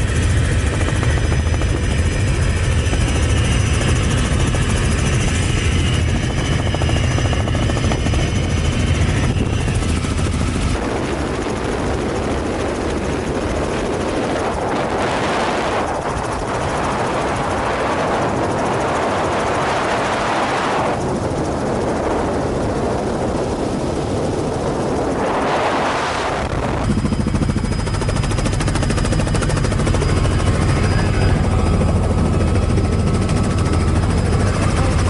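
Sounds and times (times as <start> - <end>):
helicopter rotor and engine: 0.0 - 35.0
rush of wind: 0.0 - 35.0.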